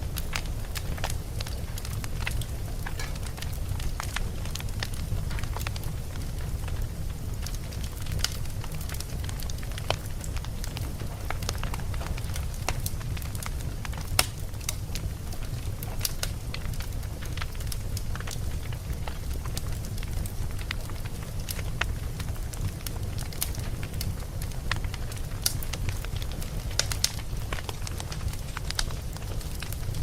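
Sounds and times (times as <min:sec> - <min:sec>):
campfire low rumble: 0:00.0 - 0:30.0
wood crackling and popping: 0:00.0 - 0:30.0.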